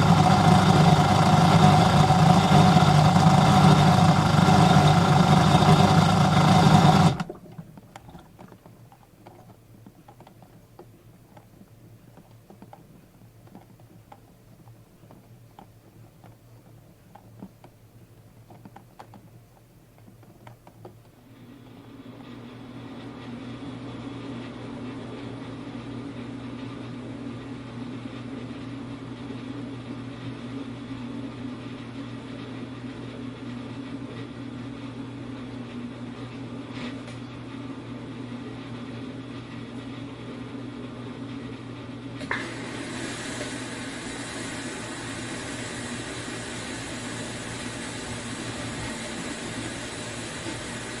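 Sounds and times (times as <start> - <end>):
dishwasher motor hum: 0.0 - 24.9, 34.2 - 51.0.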